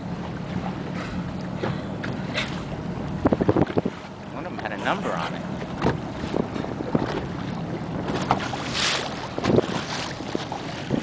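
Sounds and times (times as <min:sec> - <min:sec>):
motorboat engine hum: 0:00.0 - 0:11.0
water slapping: 0:00.0 - 0:11.0
wind buffeting microphone: 0:00.0 - 0:11.0.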